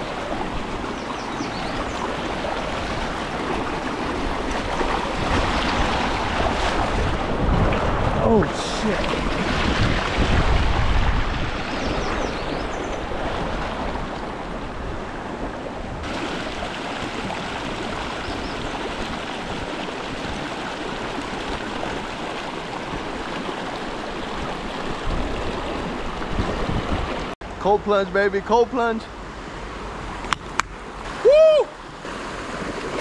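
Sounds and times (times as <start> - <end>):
water rushing over rocks: 0.0 - 27.4.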